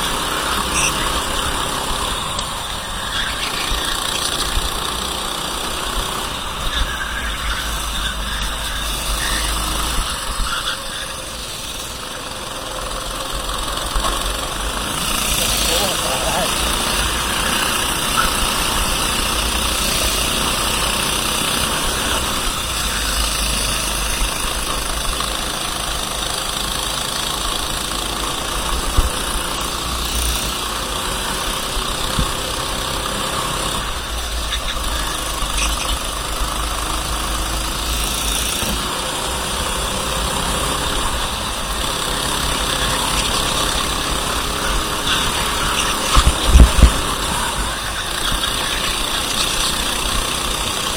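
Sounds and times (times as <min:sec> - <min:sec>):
racing kart engine revving: 0:00.0 - 0:50.9
steady rushing hiss: 0:00.0 - 0:50.9.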